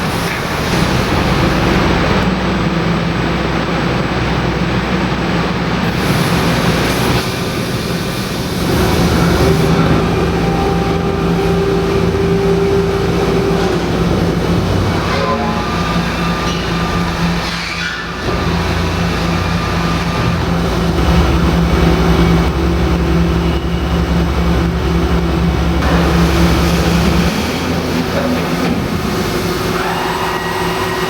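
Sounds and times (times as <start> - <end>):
machining center running: 0.0 - 31.0.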